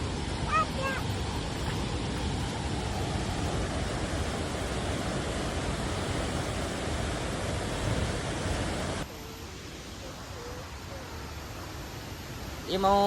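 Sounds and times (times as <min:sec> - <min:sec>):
waterfall rushing: 0:00.0 - 0:12.8
running water hiss: 0:00.0 - 0:13.0.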